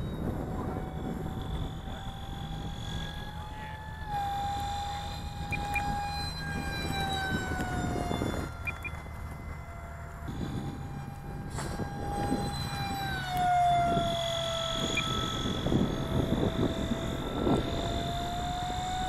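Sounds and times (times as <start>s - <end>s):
electric fan motor whining: 0.0s - 19.0s.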